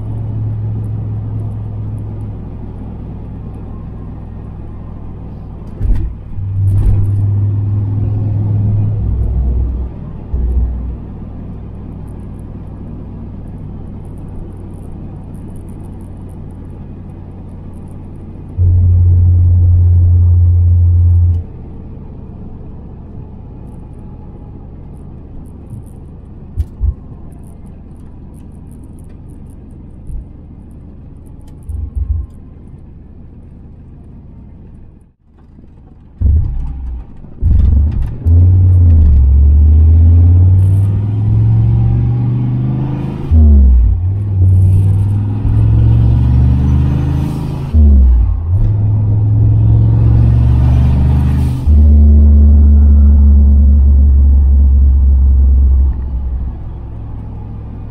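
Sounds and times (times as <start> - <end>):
car engine accelerating: 0.0 - 57.9
car engine cruising: 0.0 - 57.9.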